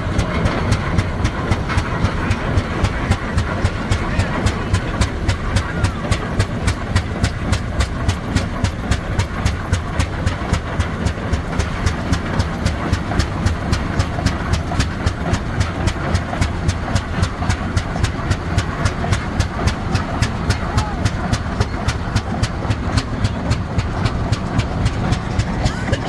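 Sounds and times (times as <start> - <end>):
antique engine knocking: 0.0 - 26.0.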